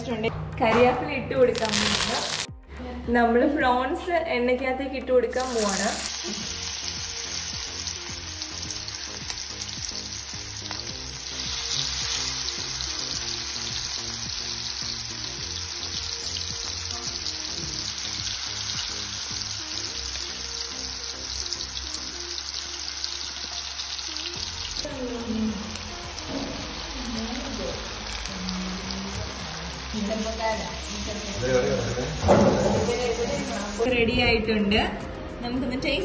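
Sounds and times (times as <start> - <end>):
prawns sizzling in hot oil: 1.5 - 2.5, 5.4 - 33.9.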